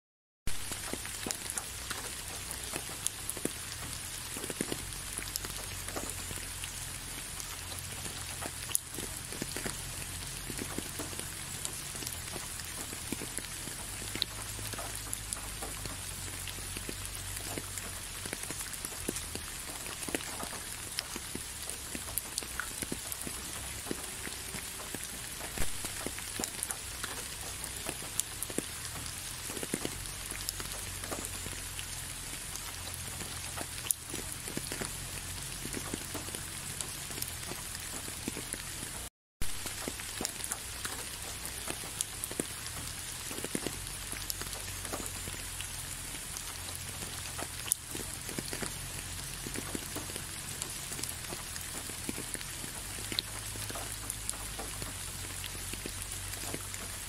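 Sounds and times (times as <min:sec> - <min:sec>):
raindrops ticking: 0:00.5 - 0:57.0
steady rain hiss: 0:00.5 - 0:57.0.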